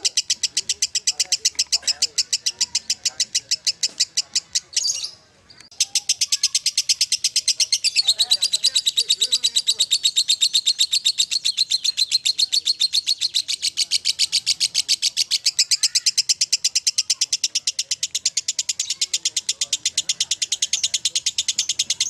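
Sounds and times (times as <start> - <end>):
lovebird rapid chatter call: 0.0 - 22.0.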